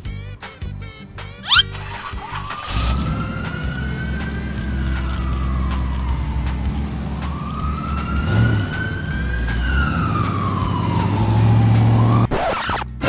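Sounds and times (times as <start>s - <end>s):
emergency vehicle siren wailing: 1.5s - 12.3s
low engine rumble: 1.5s - 12.3s.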